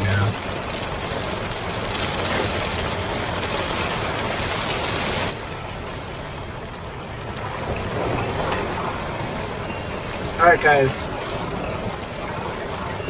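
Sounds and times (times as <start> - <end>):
heavy rain drumming on a roof: 0.0 - 13.0.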